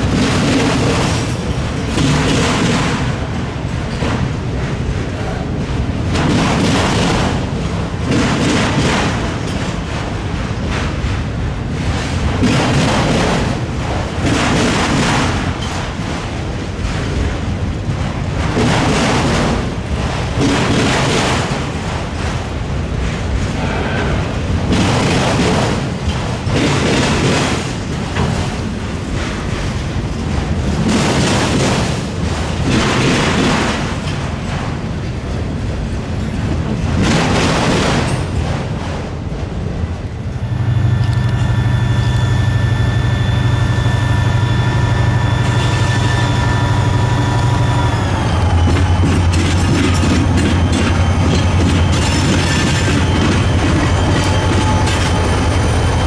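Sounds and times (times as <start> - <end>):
rumble of passing freight cars: 0.0 - 56.0
train wheels thudding over crossing: 0.0 - 56.0.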